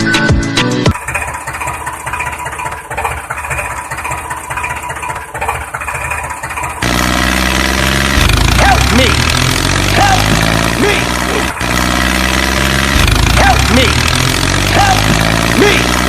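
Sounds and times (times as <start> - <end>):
diesel engine idling: 0.9 - 16.0.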